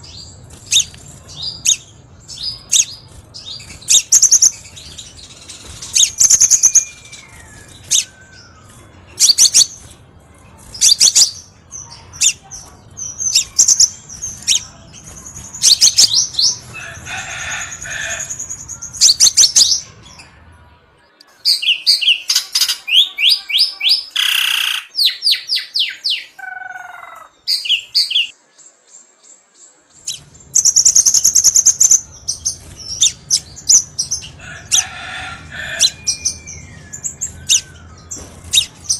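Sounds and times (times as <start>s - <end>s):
sunbird chirps and trills: 0.0s - 20.5s, 21.4s - 38.9s.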